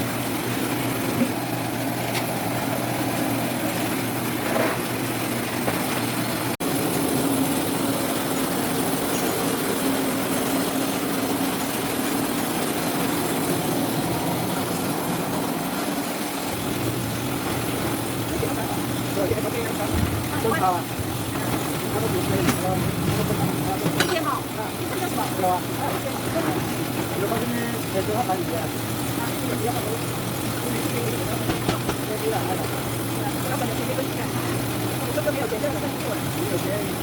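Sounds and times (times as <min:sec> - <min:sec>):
sorting machine rumble: 0:00.0 - 0:37.0.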